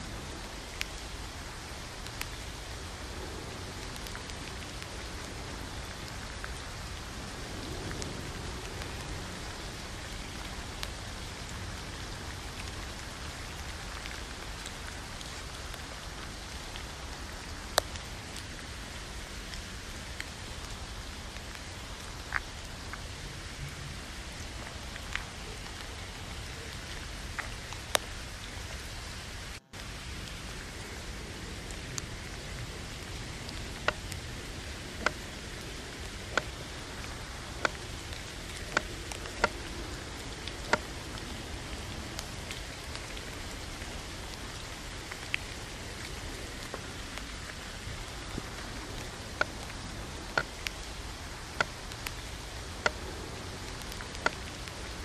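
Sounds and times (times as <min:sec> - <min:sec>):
rain on a tent: 0:00.0 - 0:55.0.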